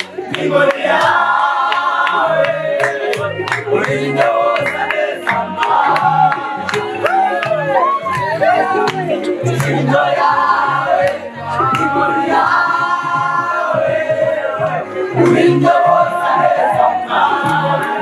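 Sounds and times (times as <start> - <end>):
celebrating crowd: 0.0 - 18.0
music with steady beat: 0.0 - 18.0
voices singing together: 0.0 - 18.0.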